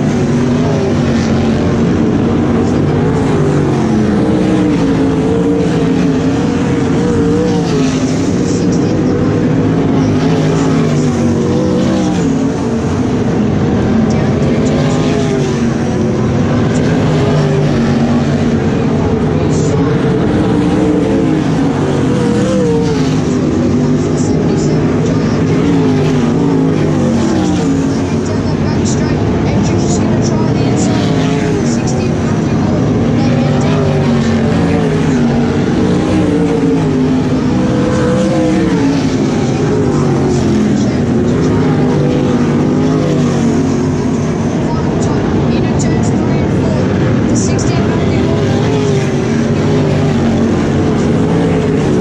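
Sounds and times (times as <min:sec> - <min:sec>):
racing car engines: 0:00.0 - 0:52.0.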